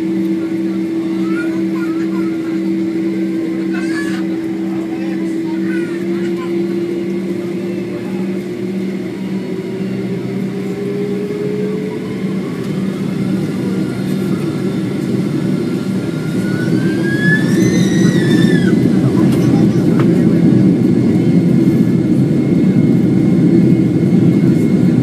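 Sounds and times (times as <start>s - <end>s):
jet engine whine rising: 0.0s - 25.0s
jet engines droning in cabin: 0.0s - 25.0s.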